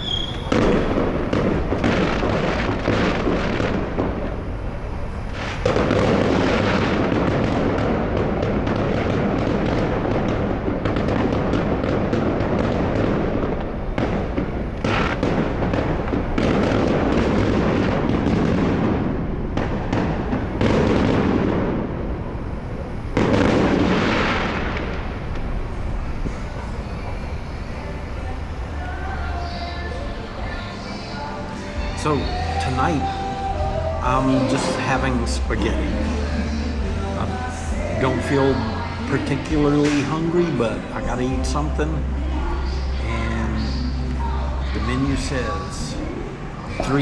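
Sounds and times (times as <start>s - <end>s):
fireworks crackling and banging: 0.0s - 47.0s.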